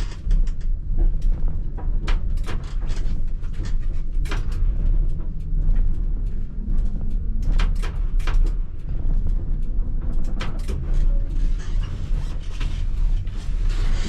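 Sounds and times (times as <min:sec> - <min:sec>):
clicks and knocks of wheels: 0:00.0 - 0:14.0
tram rumbling on track: 0:00.0 - 0:14.0.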